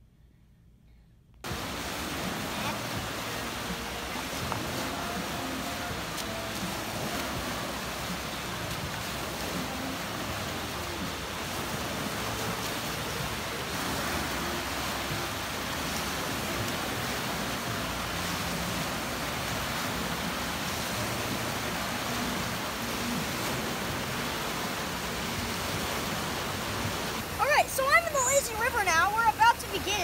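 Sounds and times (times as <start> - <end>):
waves breaking: 1.4 - 30.0.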